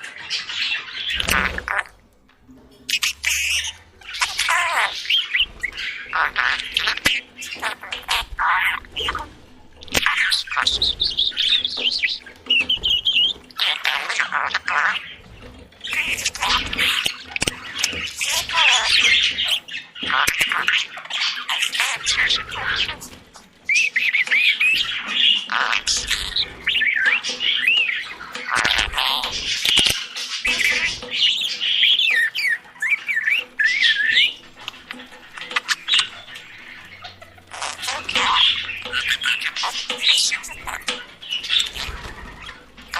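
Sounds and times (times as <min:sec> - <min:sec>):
budgerigars chattering: 0:00.0 - 0:02.0, 0:02.8 - 0:42.9.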